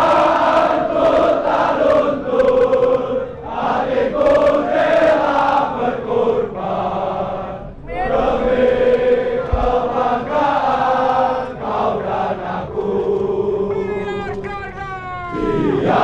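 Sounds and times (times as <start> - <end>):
crowd chanting a song: 0.0 - 13.8, 15.3 - 16.0.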